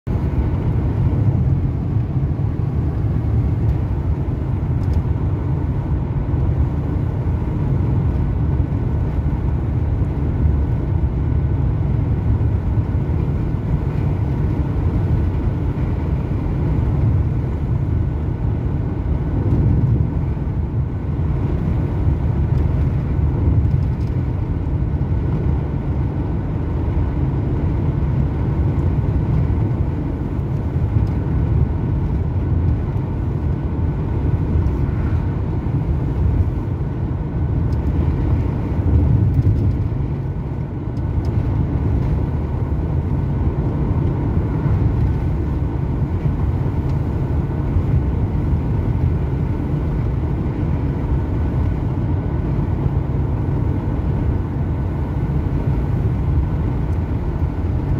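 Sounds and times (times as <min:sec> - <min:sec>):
van cabin engine drone: 0:00.0 - 0:57.9.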